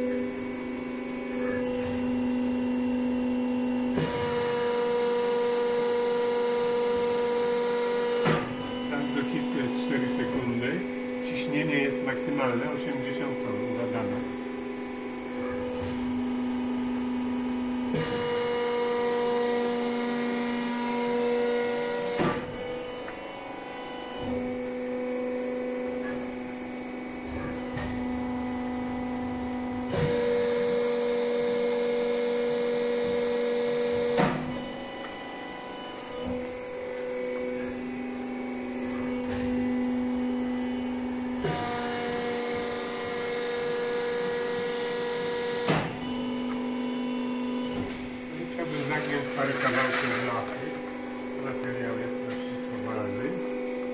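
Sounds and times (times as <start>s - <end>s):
hydraulic pump humming: 0.0s - 53.9s.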